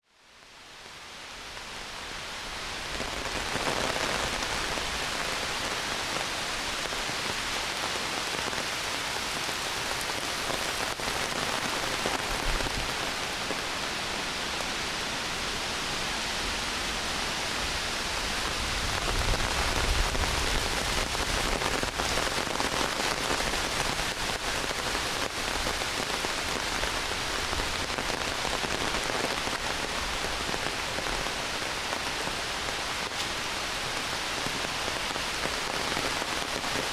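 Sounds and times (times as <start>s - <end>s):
heavy rain in forest: 0.0s - 36.9s.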